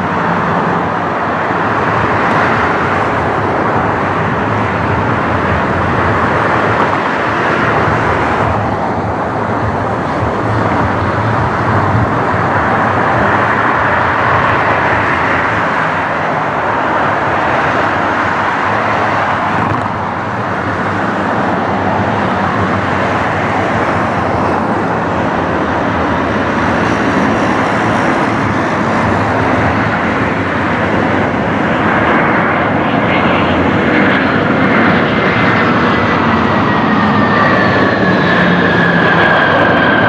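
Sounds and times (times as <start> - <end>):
high engine whine: 0.0 - 40.0
jet engines roaring: 0.0 - 40.0.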